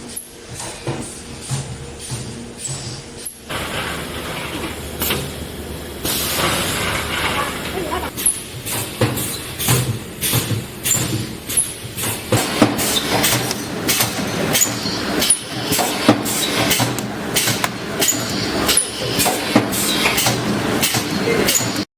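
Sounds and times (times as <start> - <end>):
welding machine metallic clanks: 2.0 - 21.8.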